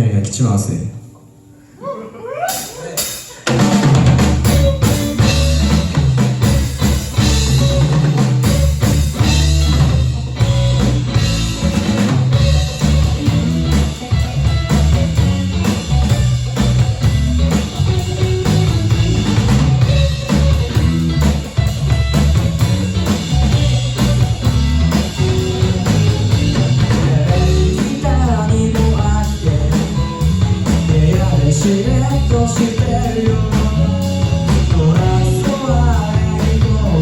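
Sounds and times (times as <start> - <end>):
rock band playing instrumental: 2.5 - 37.0.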